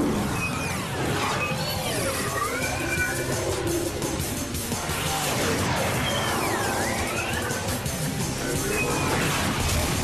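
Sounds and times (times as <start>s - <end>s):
sci-fi action music: 0.0s - 10.0s
swooping whine: 0.0s - 10.0s.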